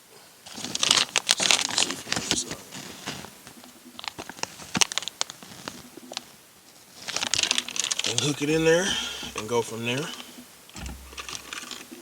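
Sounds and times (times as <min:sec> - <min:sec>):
plastic crinkling: 0:00.4 - 0:12.0.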